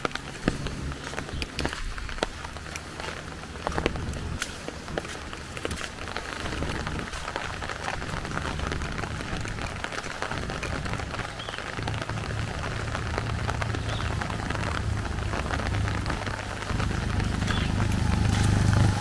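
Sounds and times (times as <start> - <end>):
low rumble: 0.0 - 19.0
steady rain falling: 0.0 - 19.0.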